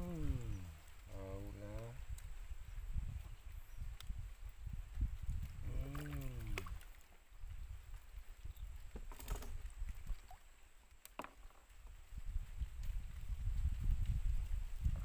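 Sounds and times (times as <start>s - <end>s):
rumble of water and wind: 0.0s - 15.0s.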